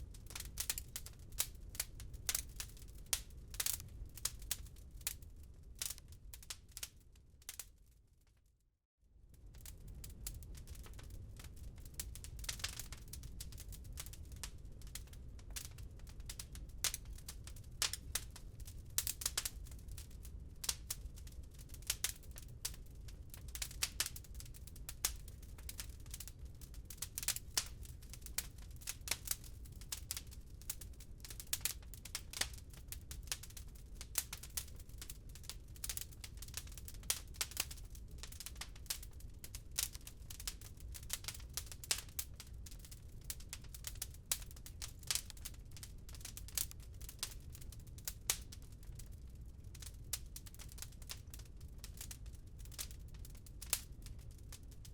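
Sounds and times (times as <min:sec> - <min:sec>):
wood fire crackling and popping: 0:00.0 - 0:08.0, 0:09.4 - 0:54.9
low fire rumble: 0:00.0 - 0:08.4, 0:09.2 - 0:54.9.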